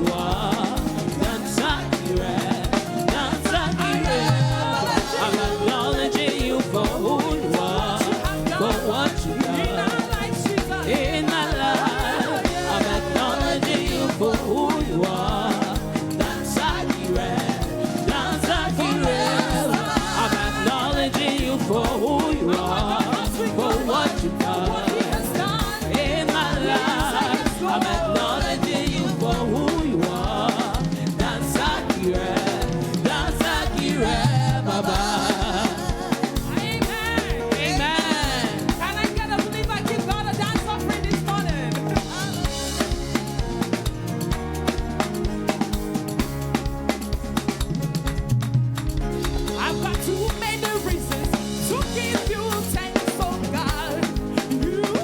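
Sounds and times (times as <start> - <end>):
gospel singing over band: 0.0 - 55.0.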